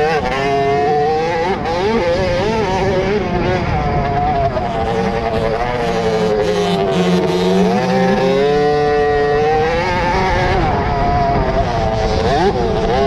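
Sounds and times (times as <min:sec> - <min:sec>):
two-stroke minibikes revving: 0:00.0 - 0:13.0.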